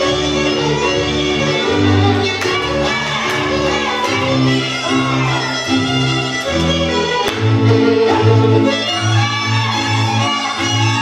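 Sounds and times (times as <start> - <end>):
bowed string accompaniment: 0.0 - 11.0
fiddle melody: 0.0 - 11.0.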